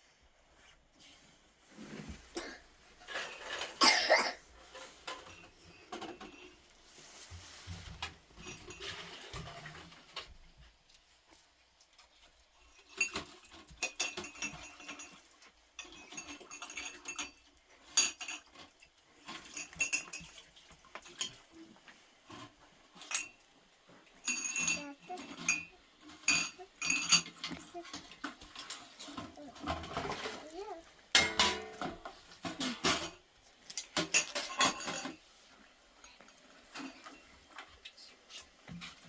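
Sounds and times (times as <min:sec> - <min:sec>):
dishes and utensils clinking: 0:01.7 - 0:10.4, 0:12.6 - 0:39.0.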